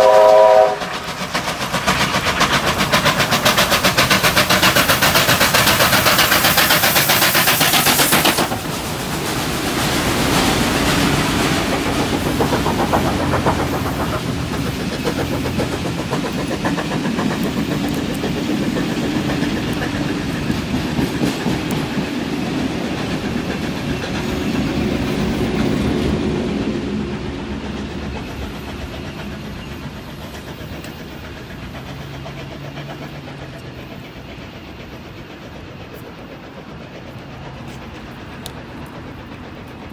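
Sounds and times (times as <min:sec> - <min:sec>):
steam locomotive hissing: 0:00.0 - 0:39.9
train carriages rumbling and clacking: 0:00.0 - 0:39.9.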